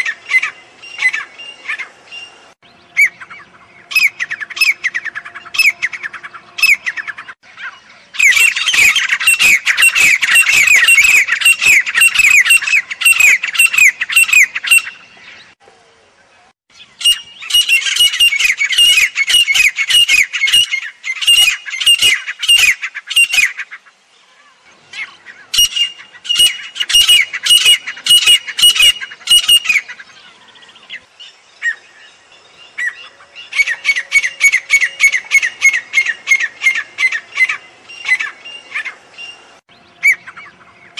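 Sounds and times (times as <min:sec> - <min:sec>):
francolins calling: 0:00.0 - 0:15.6, 0:16.3 - 0:40.9.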